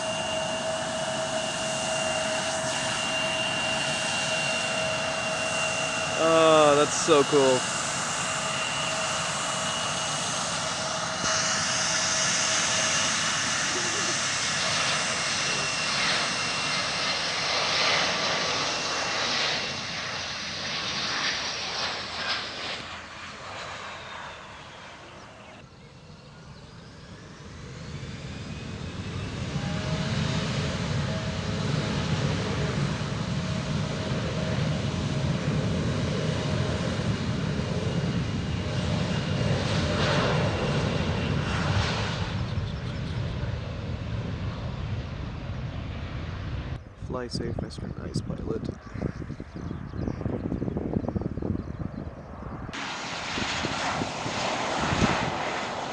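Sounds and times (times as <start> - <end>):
airliner engines whining: 0.0 - 55.9
jet engines roaring at takeoff: 0.0 - 55.9.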